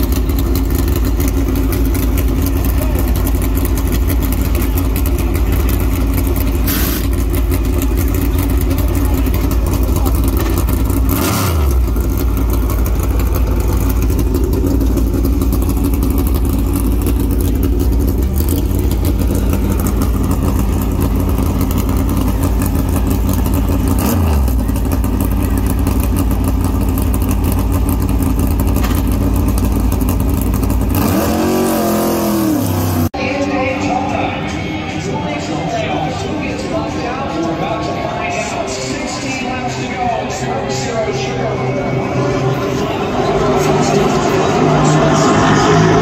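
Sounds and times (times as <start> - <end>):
engine revving: 0.0 - 33.2, 41.9 - 46.0
race car engine idling: 0.0 - 46.0.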